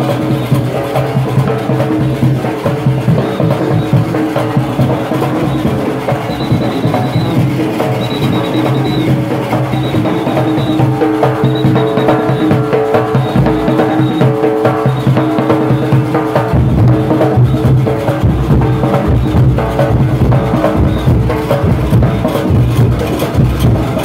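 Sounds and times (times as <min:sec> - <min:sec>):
percussion beat: 0:00.0 - 0:24.0
steel pans playing: 0:00.0 - 0:24.0.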